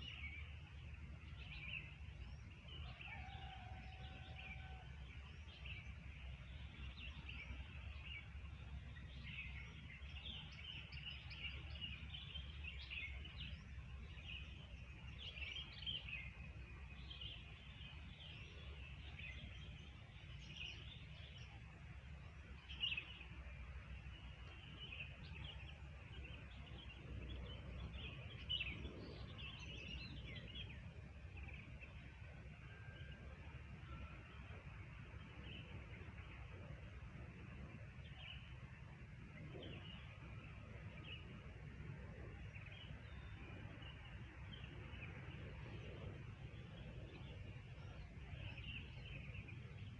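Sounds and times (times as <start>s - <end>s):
birds chirping: 9.0s - 49.9s.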